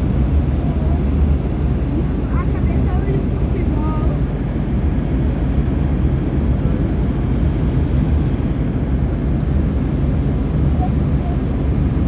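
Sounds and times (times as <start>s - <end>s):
airplane engine rumble: 0.0s - 12.0s.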